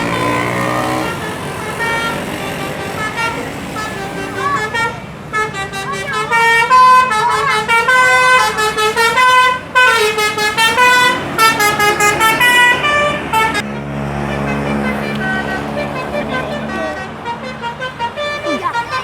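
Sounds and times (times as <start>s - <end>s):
multi-tone musical bus horn: 0.0s - 19.0s.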